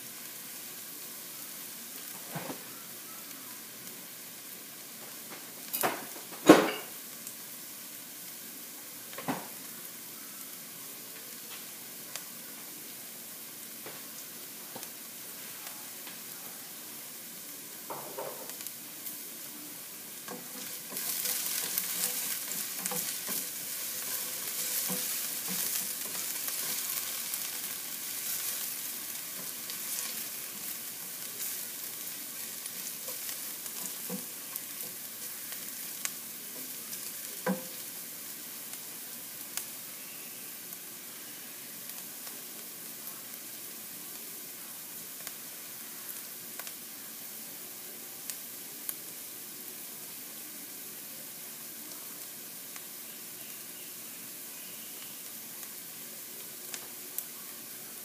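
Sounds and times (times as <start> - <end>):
ginger sizzling in oil: 0.0 - 58.0.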